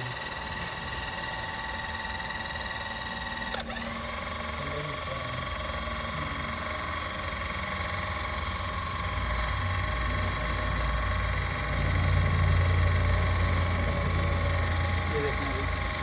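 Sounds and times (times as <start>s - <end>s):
electric car jack motor whining: 0.0s - 16.0s.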